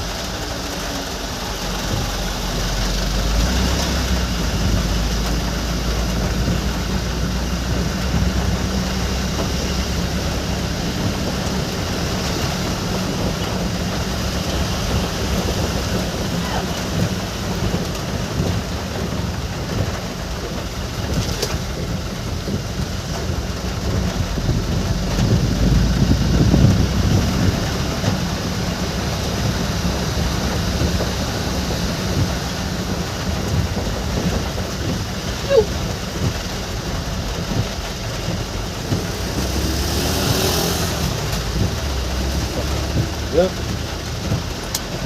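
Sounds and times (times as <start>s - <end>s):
engine and road rumble: 0.0s - 45.0s
rain on a moving vehicle: 0.0s - 45.0s.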